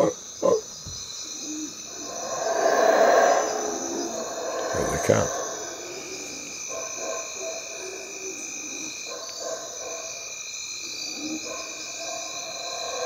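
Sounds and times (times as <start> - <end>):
insects trilling: 0.0 - 13.0
distant howler monkey roars: 1.3 - 13.0.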